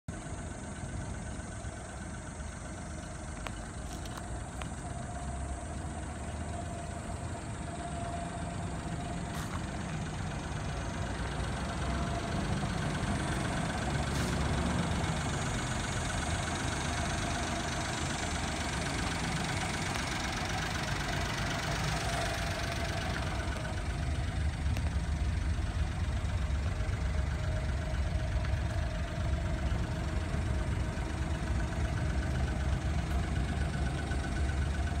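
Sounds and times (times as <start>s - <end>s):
small truck engine idling: 0.1s - 35.0s.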